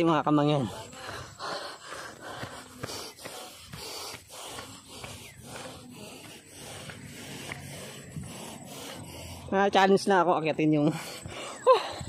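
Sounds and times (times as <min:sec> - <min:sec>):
person panting heavily: 0:00.4 - 0:12.0.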